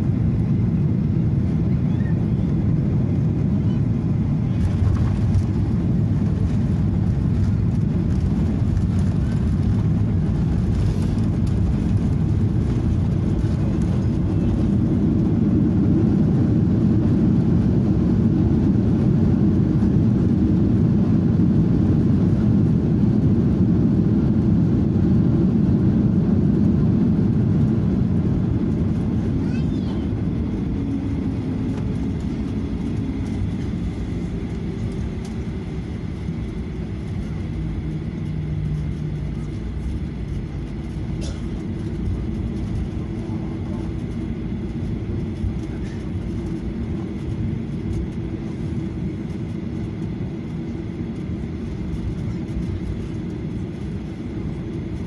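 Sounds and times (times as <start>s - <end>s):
jet engine and airflow roar: 0.0s - 55.0s.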